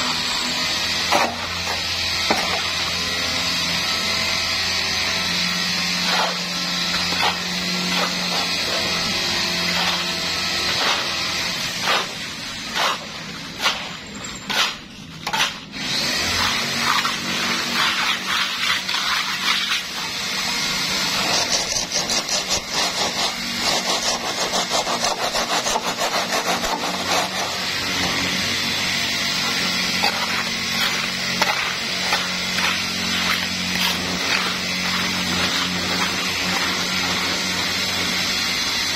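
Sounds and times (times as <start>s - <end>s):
steel trowel scraping wet mortar: 0.6s - 3.1s, 5.0s - 38.9s.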